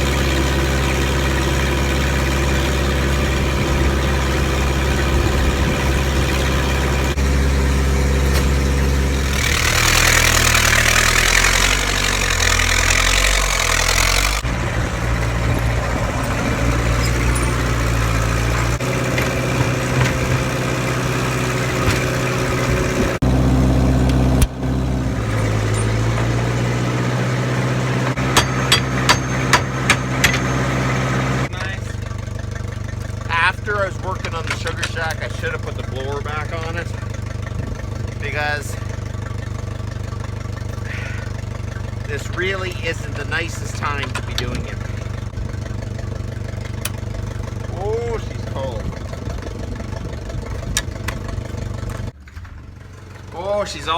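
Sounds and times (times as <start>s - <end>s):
tractor engine idling: 0.0s - 53.9s.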